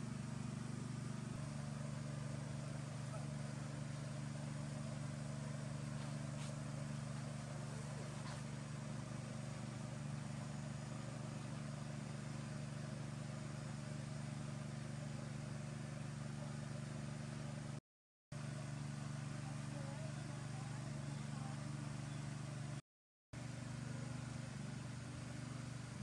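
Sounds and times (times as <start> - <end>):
low mechanical hum: 0.0 - 17.8, 18.4 - 22.8, 23.4 - 26.0.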